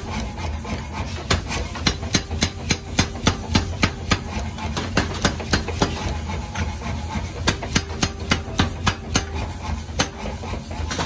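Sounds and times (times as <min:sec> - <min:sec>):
machine hum: 0:00.0 - 0:11.0
power hammer pounding steel: 0:00.0 - 0:11.0.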